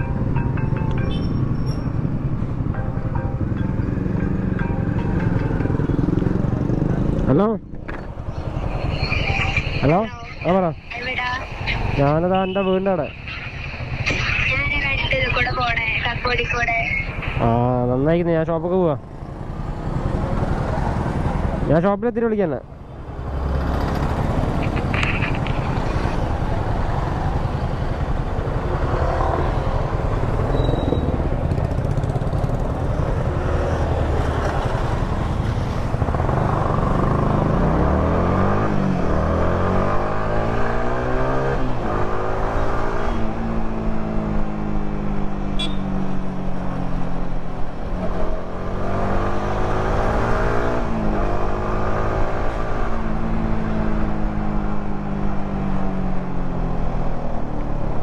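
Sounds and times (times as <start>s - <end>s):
motorcycle engine: 0.0s - 15.5s, 19.0s - 21.8s, 22.6s - 56.0s.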